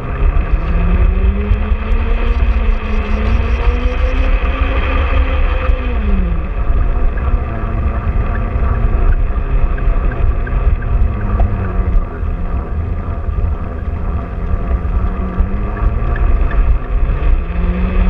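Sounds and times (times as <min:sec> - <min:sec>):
motor and gear whine: 0:00.0 - 0:18.0
wheels rumbling on track: 0:00.0 - 0:18.0.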